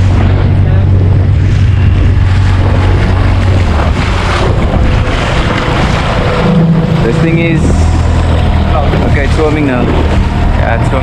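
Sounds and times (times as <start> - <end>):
outboard motor humming: 0.0 - 11.0
water splashing at hull: 0.0 - 11.0
wind rushing over microphone: 0.0 - 11.0.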